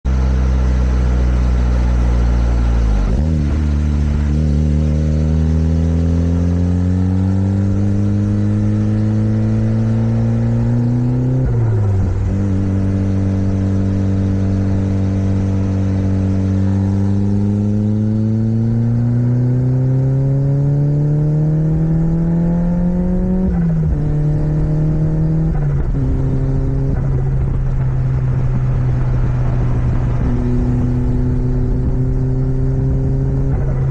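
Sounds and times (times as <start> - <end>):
car engine revving under load: 0.0 - 33.9.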